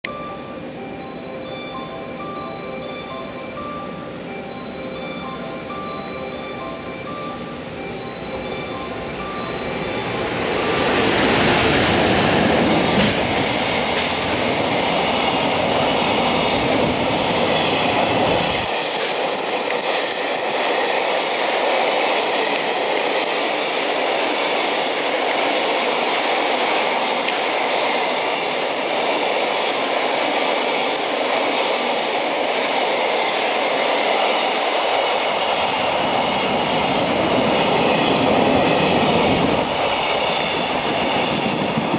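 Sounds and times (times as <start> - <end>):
electric locomotive passing: 0.0 - 41.9.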